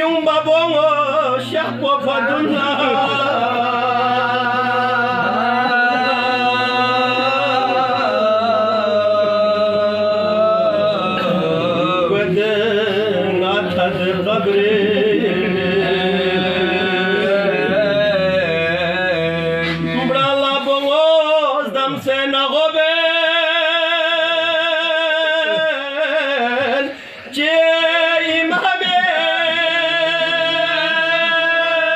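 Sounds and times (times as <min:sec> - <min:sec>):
man chanting a lament: 0:00.0 - 0:31.9.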